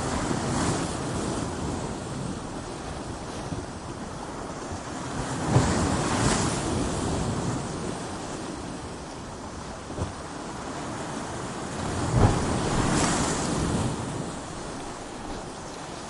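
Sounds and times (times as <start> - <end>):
waves crashing on rocks: 0.0 - 16.0.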